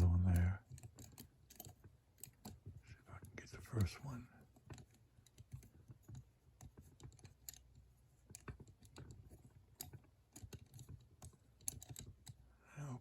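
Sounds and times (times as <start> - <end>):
lock pick clicking and scraping: 0.0 - 12.5.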